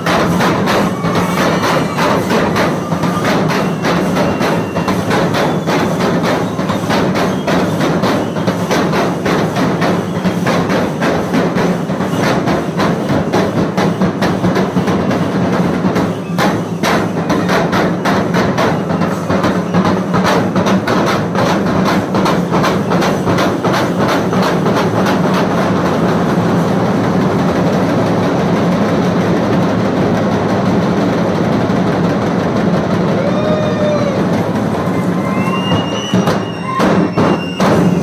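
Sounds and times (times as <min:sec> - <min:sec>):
barrel drums beaten with sticks: 0:00.0 - 0:38.0.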